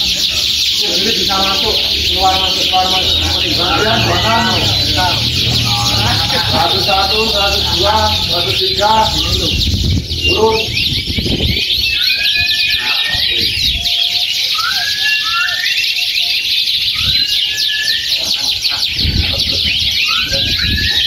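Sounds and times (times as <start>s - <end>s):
songbirds chirping chorus: 0.0s - 21.0s.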